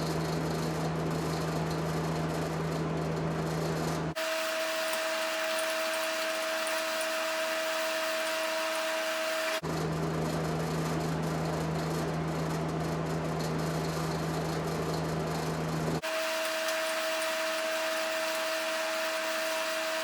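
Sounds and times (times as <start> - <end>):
machine hum with high whine: 0.0 - 20.0
machine hum with low drone: 0.0 - 20.0.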